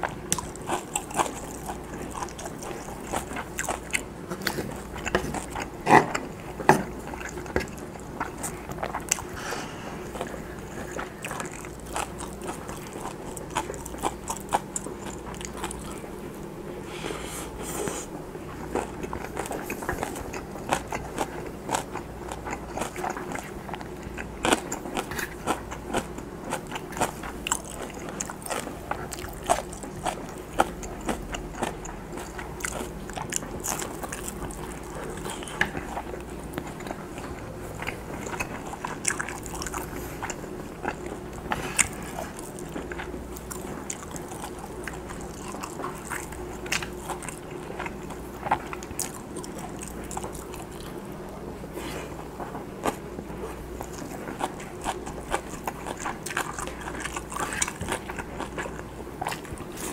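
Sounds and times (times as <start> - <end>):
chewing and wet mouth sounds: 0.0 - 16.6, 17.8 - 59.9.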